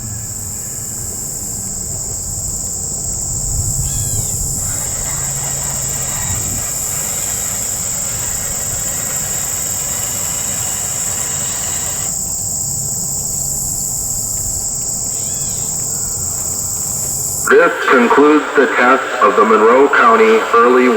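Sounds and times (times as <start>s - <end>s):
insects buzzing: 0.0s - 20.9s.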